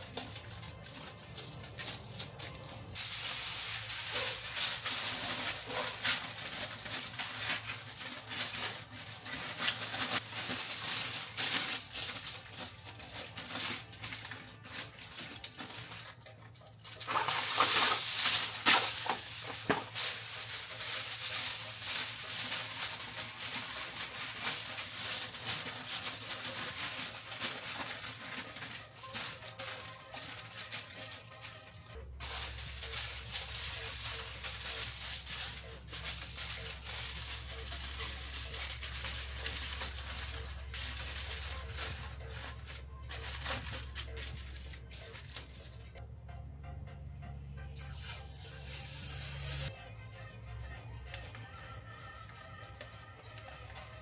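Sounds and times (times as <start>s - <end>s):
foil and plastic crinkling: 0.0s - 46.0s, 47.8s - 49.8s, 50.7s - 54.0s.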